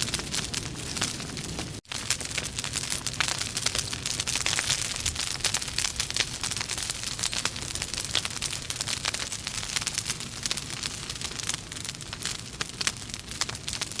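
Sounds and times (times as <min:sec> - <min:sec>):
logs crackling in a fireplace: 0:00.0 - 0:14.0.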